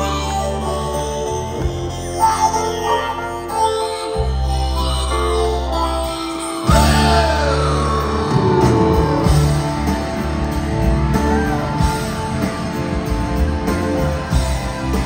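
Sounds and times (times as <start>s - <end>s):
bending lead guitar notes: 0.0s - 15.0s
live rock band: 0.0s - 15.0s.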